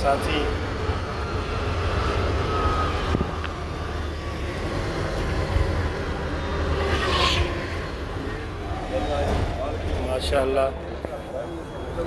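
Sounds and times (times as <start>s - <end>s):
bus engine and road noise: 0.0s - 12.0s
faint high whine: 0.0s - 12.0s.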